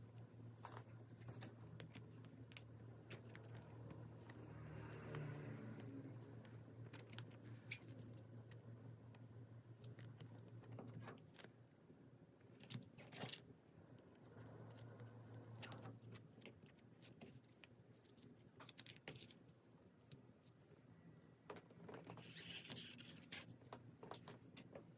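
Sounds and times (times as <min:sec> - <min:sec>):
low steady hum: 0:00.0 - 0:21.7.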